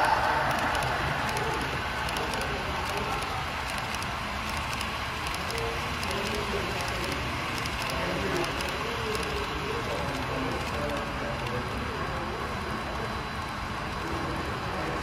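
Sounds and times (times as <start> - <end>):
model train rumbling: 0.0 - 15.0.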